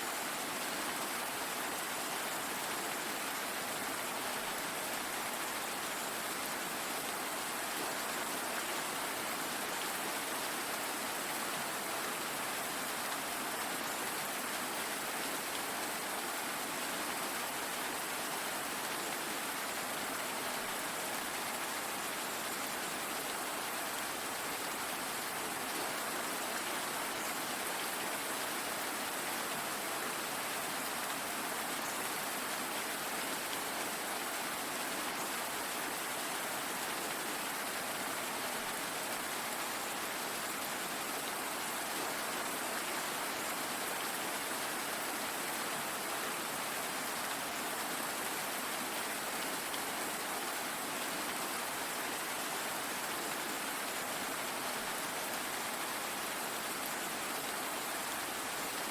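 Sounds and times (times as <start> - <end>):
steady rainfall hiss: 0.0 - 58.9.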